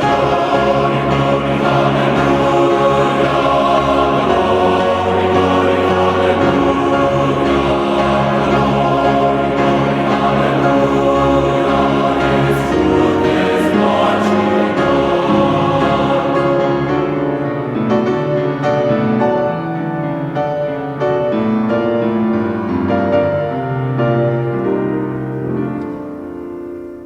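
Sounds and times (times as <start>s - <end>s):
choir-like voices singing chords: 0.0s - 27.0s.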